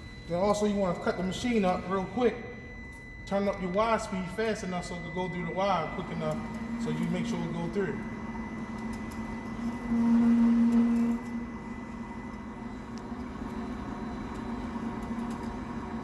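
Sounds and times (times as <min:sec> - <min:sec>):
welding machine hum: 0:00.0 - 0:16.0
wire feed motor hum: 0:00.0 - 0:16.0.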